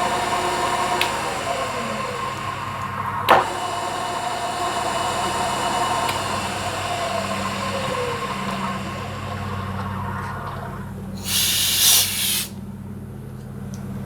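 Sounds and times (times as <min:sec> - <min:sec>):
milling machine running: 0:00.0 - 0:12.4.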